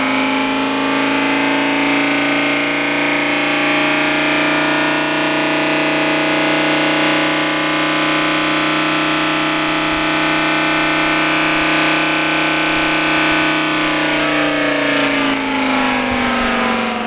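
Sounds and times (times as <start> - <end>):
air raid siren steady tone: 0.0 - 17.0.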